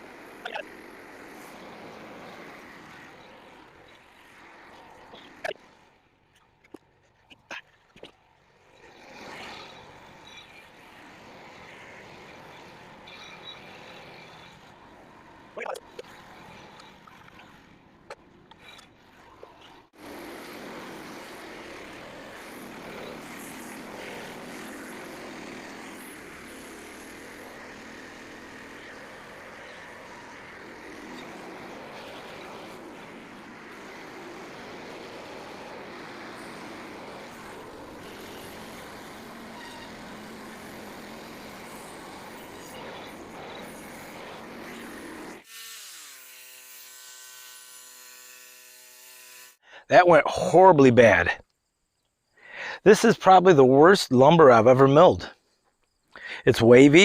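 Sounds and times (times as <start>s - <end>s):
bandsaw sawmill running: 0.0s - 6.0s, 8.1s - 51.3s.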